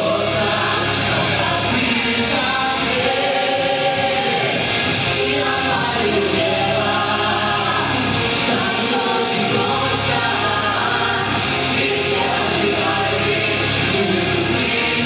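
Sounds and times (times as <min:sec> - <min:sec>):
instrumental accompaniment with bass: 0:00.0 - 0:15.0
vocal ensemble singing: 0:00.0 - 0:15.0.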